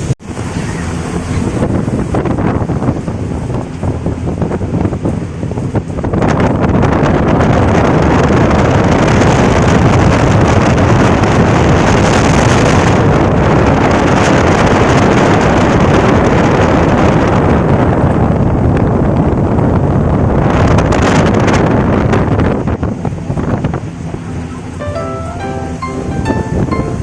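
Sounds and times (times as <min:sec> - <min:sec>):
boat engine: 0:00.0 - 0:20.1, 0:21.5 - 0:27.0
wind on microphone: 0:00.0 - 0:24.9.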